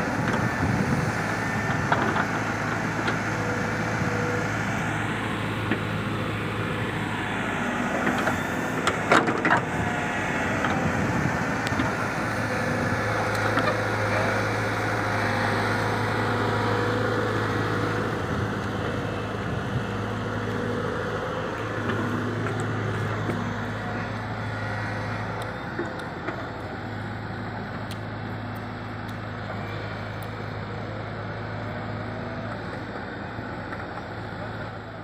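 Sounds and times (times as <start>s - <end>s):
excavator diesel engine humming: 0.0s - 35.0s.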